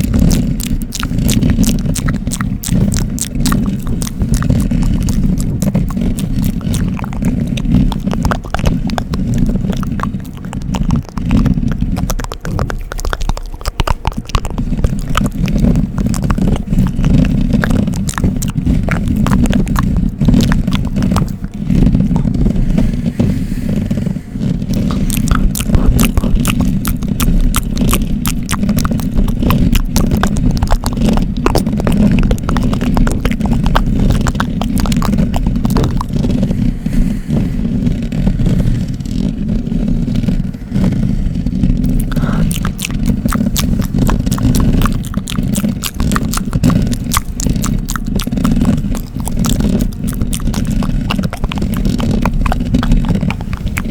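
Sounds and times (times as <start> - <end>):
scratching on microphone: 0.0 - 53.9.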